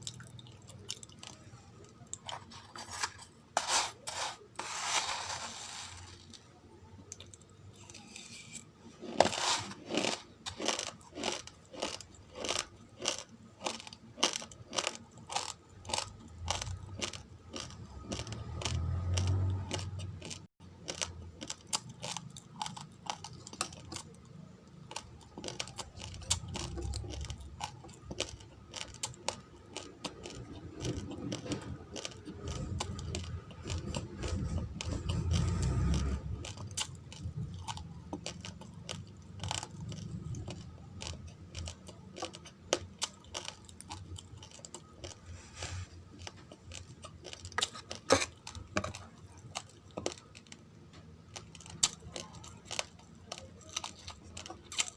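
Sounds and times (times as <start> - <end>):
crunching raw rice: 2.2 - 6.4, 9.0 - 24.1, 24.8 - 50.6, 51.3 - 54.9.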